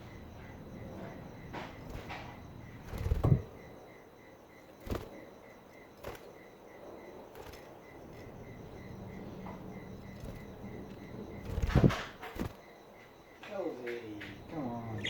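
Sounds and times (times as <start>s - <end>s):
faint chirping pulse: 0.0s - 15.0s.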